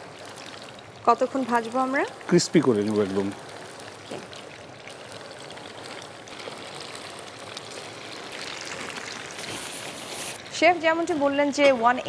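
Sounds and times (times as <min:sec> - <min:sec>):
beef deep-frying in oil: 0:00.0 - 0:12.0.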